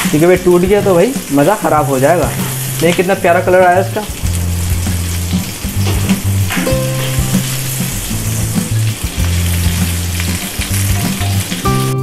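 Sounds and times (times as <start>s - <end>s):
kebabs sizzling in oil: 0.0s - 12.0s.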